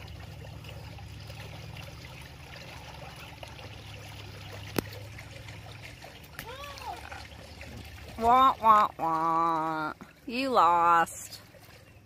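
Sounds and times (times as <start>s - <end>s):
low hum: 0.0s - 12.0s
water trickling: 0.0s - 12.0s.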